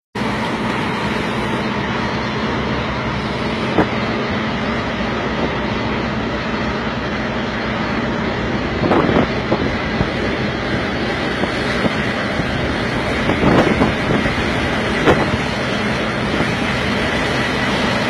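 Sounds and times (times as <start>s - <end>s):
truck engine drone: 0.1s - 18.0s.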